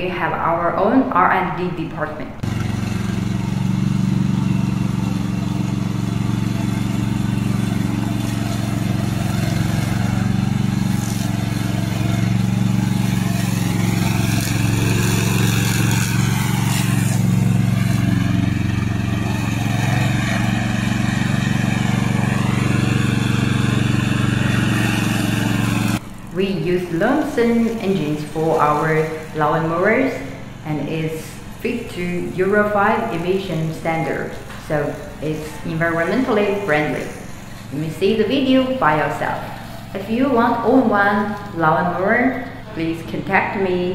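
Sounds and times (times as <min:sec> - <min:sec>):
lawn mower engine running: 0:02.4 - 0:43.9.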